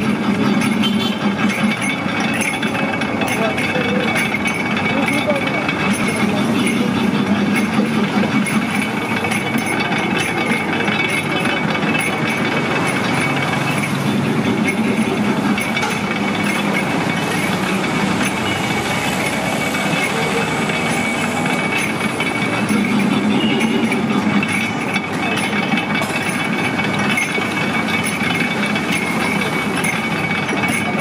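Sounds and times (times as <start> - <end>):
juice extractor grinding cane: 0.0 - 31.0.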